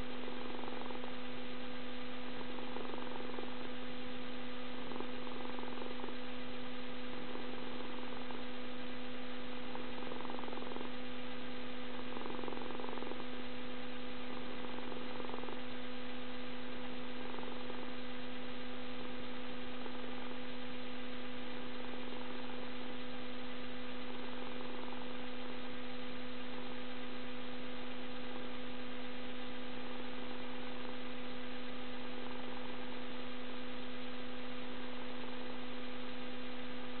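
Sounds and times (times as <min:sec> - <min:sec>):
cat snoring softly: 0:00.0 - 0:37.0
steady electrical hum: 0:00.0 - 0:37.0.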